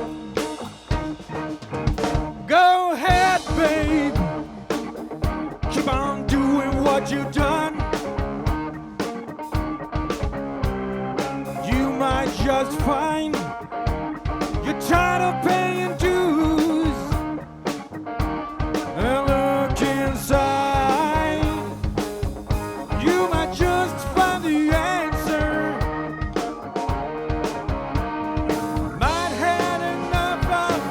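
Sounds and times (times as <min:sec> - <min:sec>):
bass: 0:00.0 - 0:30.9
lead guitar bending notes: 0:00.0 - 0:30.9
steady drums: 0:00.0 - 0:30.9.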